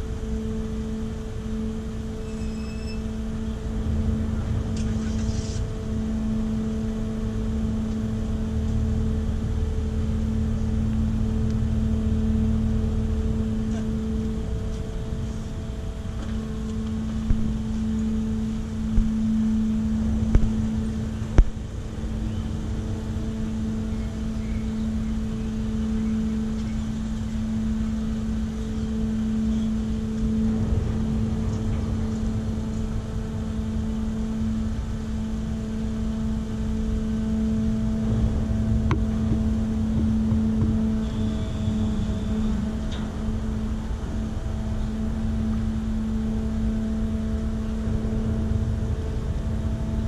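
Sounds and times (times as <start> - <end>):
ship machinery humming: 0.0 - 50.0.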